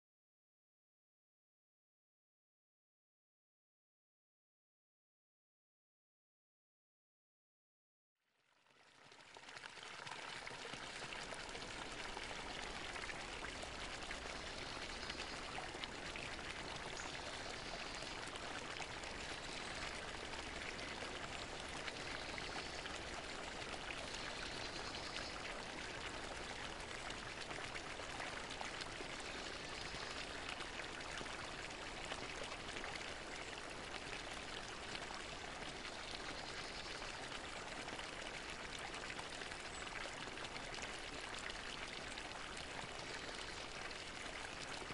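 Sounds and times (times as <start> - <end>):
fountain water splashing: 8.8 - 44.9.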